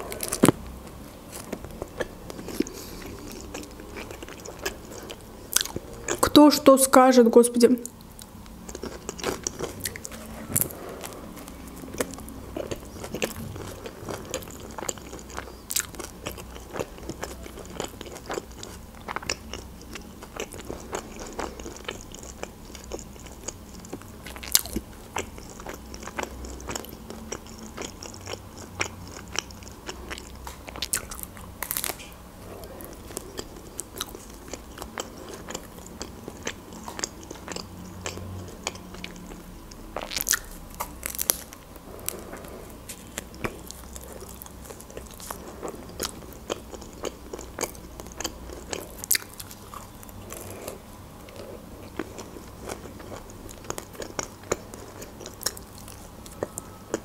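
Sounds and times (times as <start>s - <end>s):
close chewing and biting: 0.0s - 6.4s, 8.0s - 57.0s.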